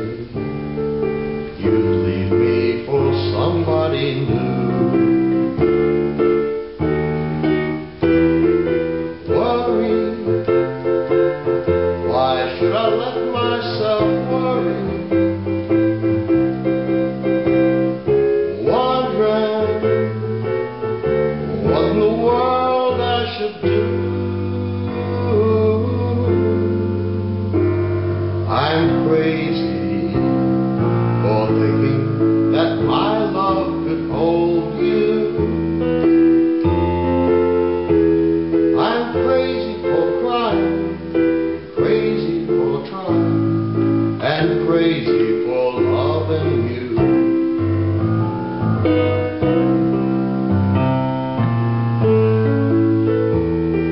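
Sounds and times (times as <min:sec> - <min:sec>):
person singing: 0:00.0 - 0:06.8, 0:08.3 - 0:50.0
piano playing slow ballad chords: 0:00.0 - 0:53.9.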